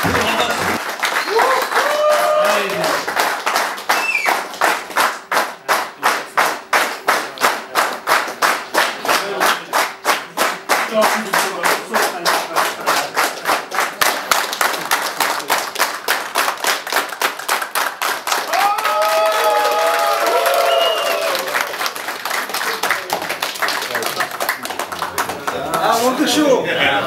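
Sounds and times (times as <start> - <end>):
people clapping in rhythm: 0.0 - 26.4.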